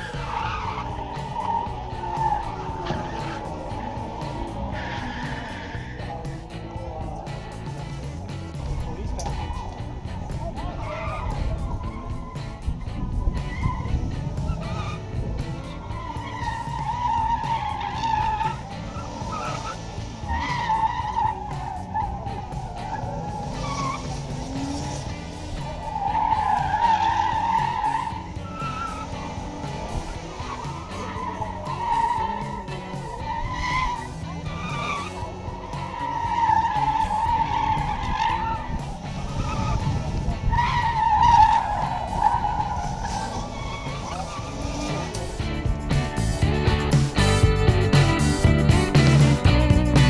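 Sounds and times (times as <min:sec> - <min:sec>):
tyres squealing: 0:00.0 - 0:45.4
car engine rumble: 0:00.0 - 0:50.0.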